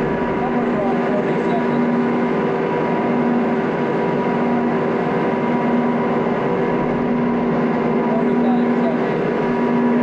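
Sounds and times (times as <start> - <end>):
feed mixer machine drone: 0.0 - 10.0.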